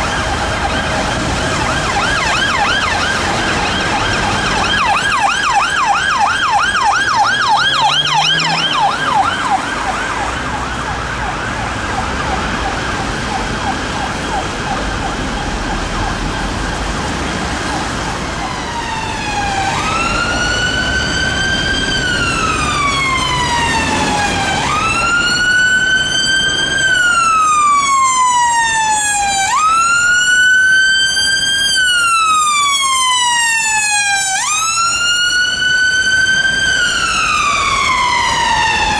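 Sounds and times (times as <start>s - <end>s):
ambulance siren slow wail: 0.0s - 38.9s
police siren fast yelp: 0.0s - 38.9s.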